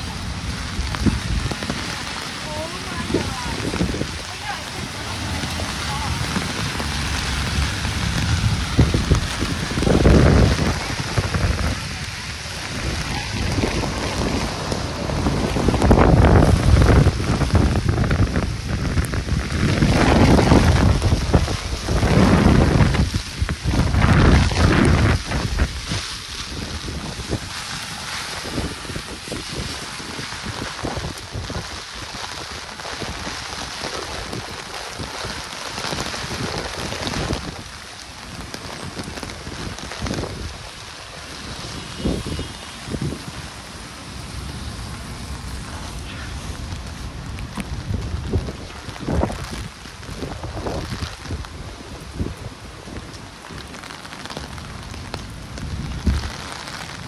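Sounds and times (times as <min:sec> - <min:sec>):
rain hissing: 0:00.0 - 0:57.0
wind gusts buffeting microphone: 0:00.0 - 0:57.0.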